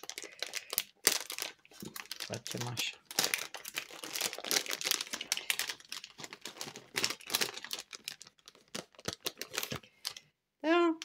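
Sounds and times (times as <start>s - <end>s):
plastic bags crinkling: 0.0s - 10.2s.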